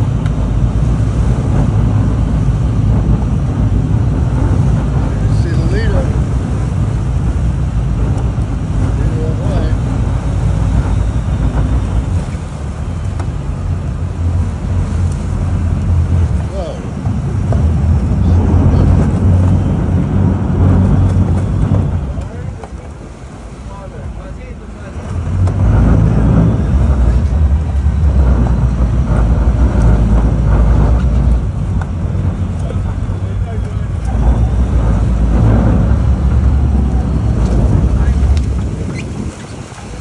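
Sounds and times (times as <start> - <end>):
boat engine low rumble: 0.0 - 40.0
sea water washing: 0.0 - 40.0
wind buffeting microphone: 0.0 - 40.0.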